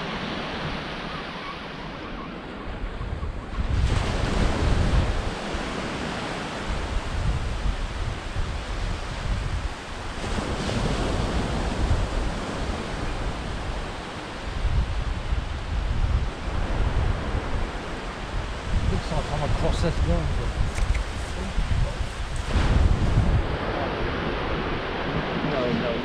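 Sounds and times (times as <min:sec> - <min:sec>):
surf washing onto shore: 0:00.0 - 0:26.0
wind gusting on microphone: 0:00.0 - 0:26.0.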